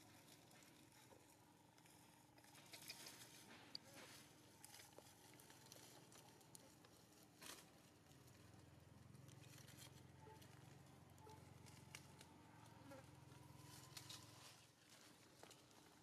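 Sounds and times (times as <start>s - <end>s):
dry leaves crackling and rustling: 0.1s - 16.0s.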